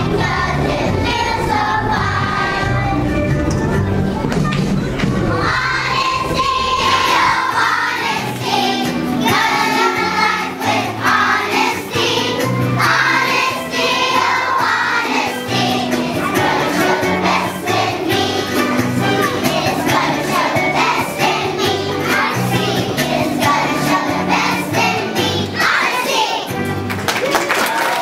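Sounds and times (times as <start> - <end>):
children singing together: 0.0 - 3.3, 5.3 - 26.6.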